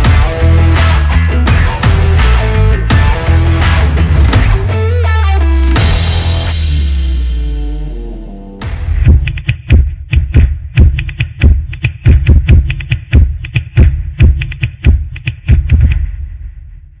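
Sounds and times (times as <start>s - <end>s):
electronic music with heavy bass: 0.0s - 15.9s.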